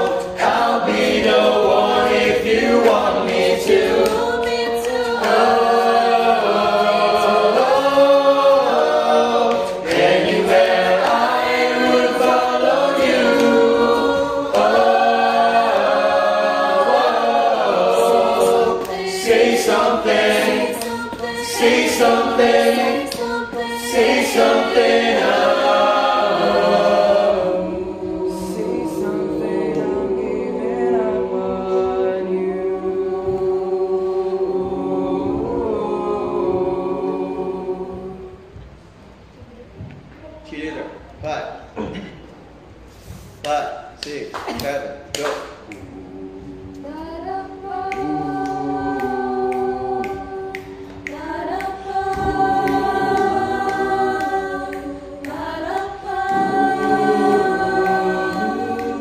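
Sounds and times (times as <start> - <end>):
choir singing sustained notes: 0.0 - 39.9, 45.6 - 59.0.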